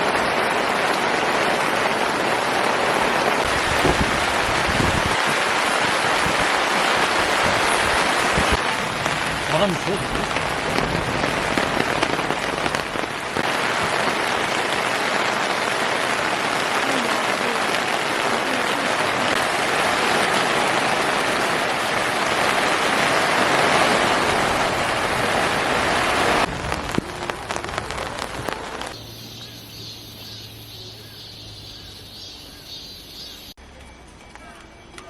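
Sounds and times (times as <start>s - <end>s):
heavy rain pouring: 0.0s - 33.6s.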